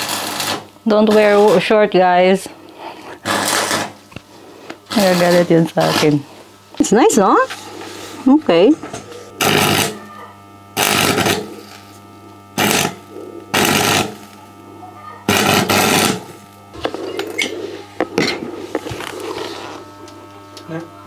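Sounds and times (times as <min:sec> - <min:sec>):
steady low hum: 0:00.0 - 0:21.0
welding arc crackling: 0:00.0 - 0:21.0.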